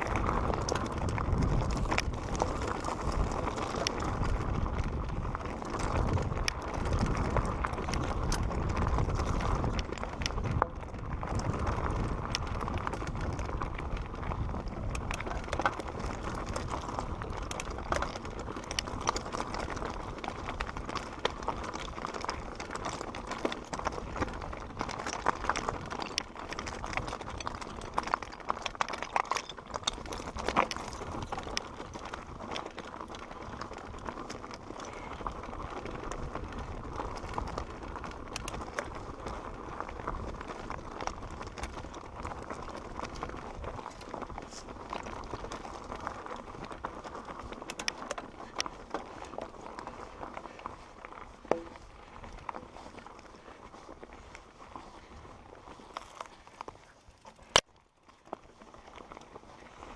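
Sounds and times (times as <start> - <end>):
wind rumble on microphone: 0.0 - 57.6
bike clattering and rattling: 0.0 - 59.9
bike tyres crunching over dirt: 0.0 - 59.9.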